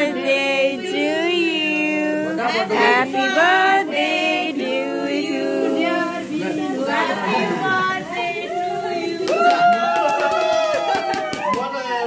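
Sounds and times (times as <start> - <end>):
voices singing together: 0.0 - 11.2.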